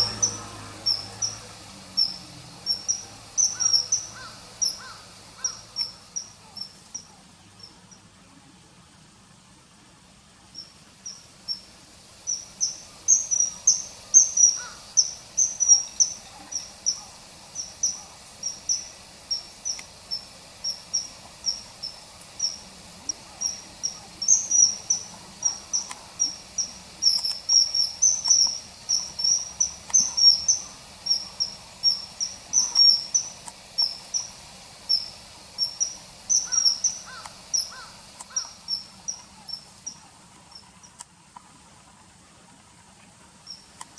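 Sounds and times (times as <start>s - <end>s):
kingfisher shrill calls: 0.0s - 7.1s, 10.6s - 40.0s.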